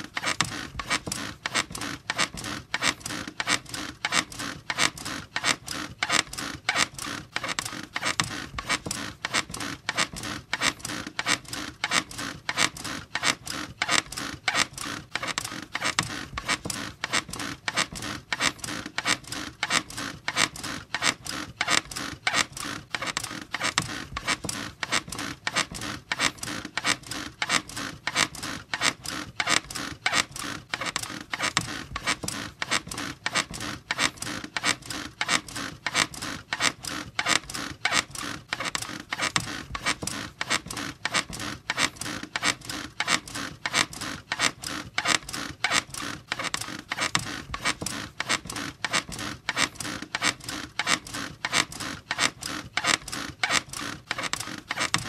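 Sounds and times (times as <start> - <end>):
bed squeaking rhythmically: 0.0 - 55.0.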